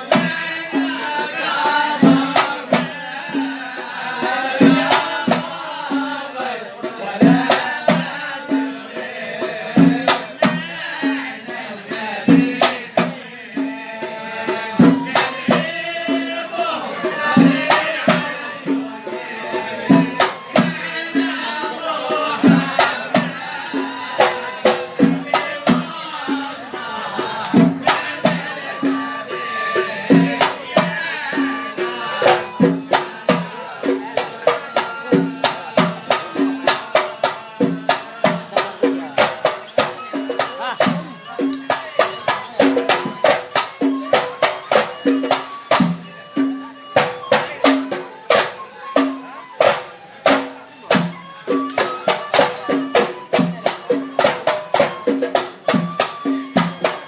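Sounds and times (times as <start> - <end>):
hand drums beating: 0.0 - 57.0
person singing: 0.0 - 57.0.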